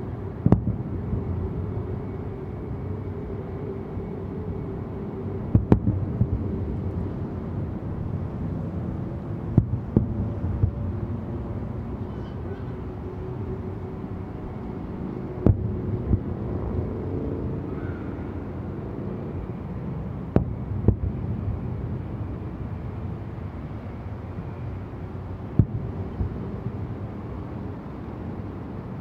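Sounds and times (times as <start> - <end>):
outdoor ambient rumble: 0.0 - 29.0.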